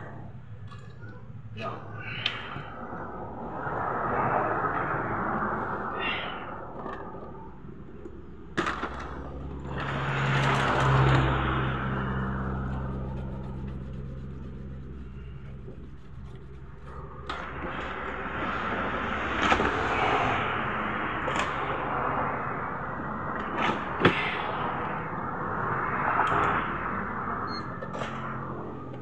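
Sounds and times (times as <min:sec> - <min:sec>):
vehicle passing by: 0:02.4 - 0:29.0.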